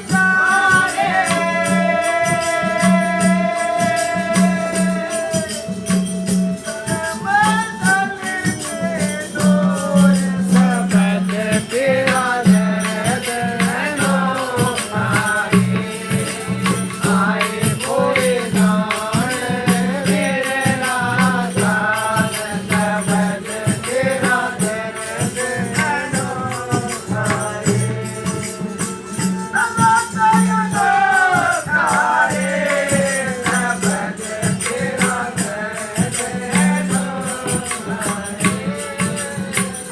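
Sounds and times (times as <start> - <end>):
jingling hand percussion: 0.0 - 39.9.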